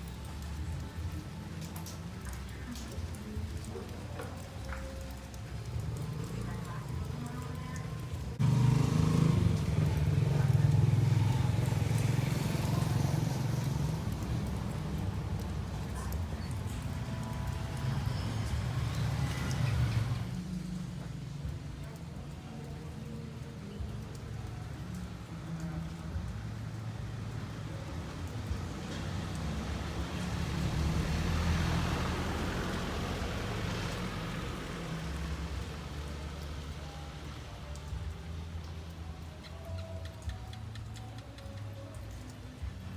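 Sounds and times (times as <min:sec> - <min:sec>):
vehicle engine passing by: 0:05.1 - 0:21.5, 0:23.6 - 0:42.9.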